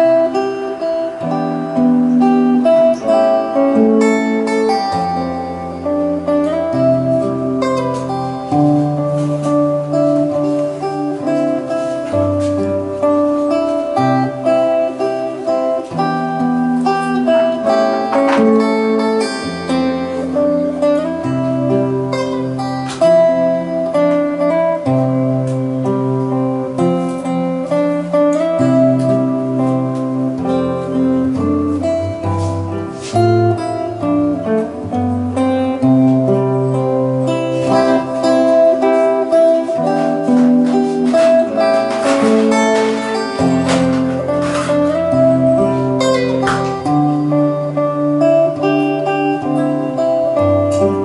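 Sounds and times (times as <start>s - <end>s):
fingerstyle acoustic guitar: 0.0s - 51.0s
strummed guitar chords: 0.0s - 51.0s.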